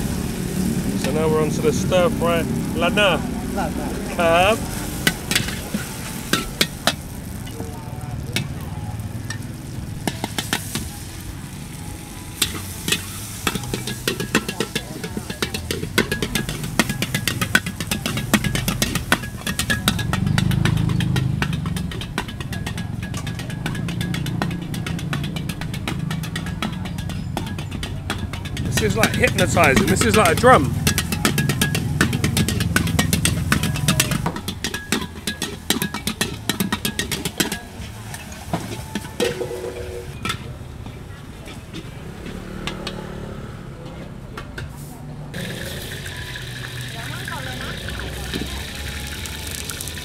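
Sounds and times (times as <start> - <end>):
gas burner rumble: 0.0 - 41.4, 44.7 - 50.0
metal utensils scraping a wok: 0.5 - 7.7, 9.2 - 40.8, 44.6 - 50.0.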